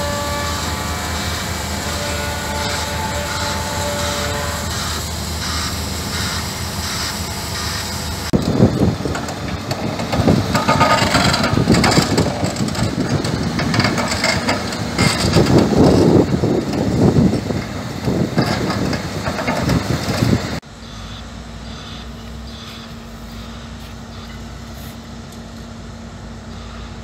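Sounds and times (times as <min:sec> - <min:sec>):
drilling rig engine running: 0:00.0 - 0:27.0.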